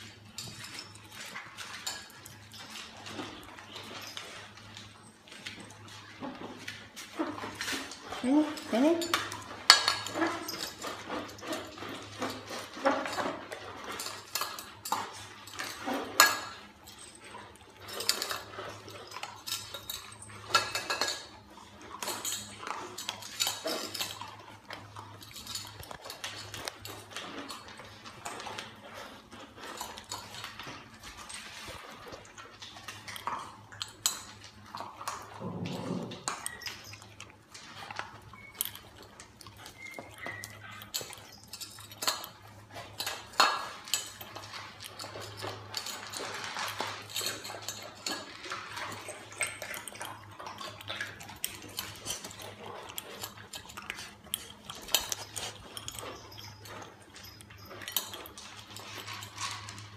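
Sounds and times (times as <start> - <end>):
dogs eating dry kibble: 0.0 - 59.9
food bowls clinking and rattling: 0.0 - 59.9.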